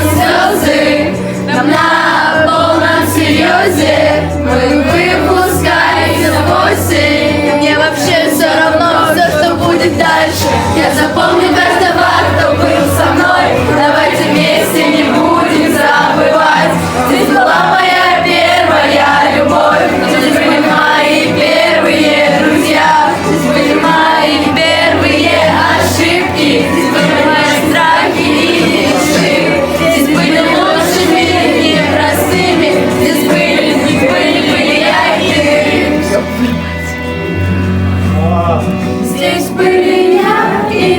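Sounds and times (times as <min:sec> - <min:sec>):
many voices singing together: 0:00.0 - 0:37.5, 0:38.6 - 0:40.9.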